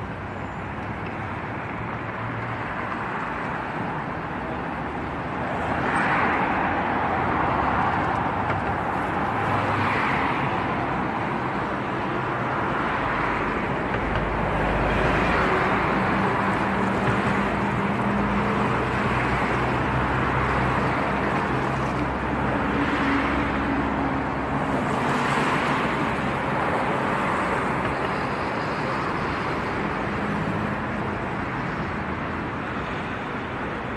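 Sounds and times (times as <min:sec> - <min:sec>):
road traffic passing: 0:00.0 - 0:33.9.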